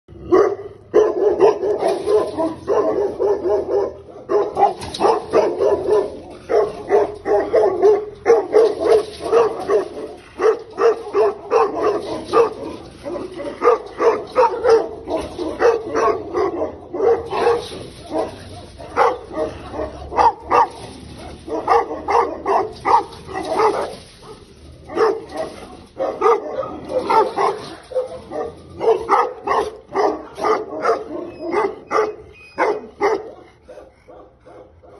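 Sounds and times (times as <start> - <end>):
dogs barking: 0.1 - 34.9.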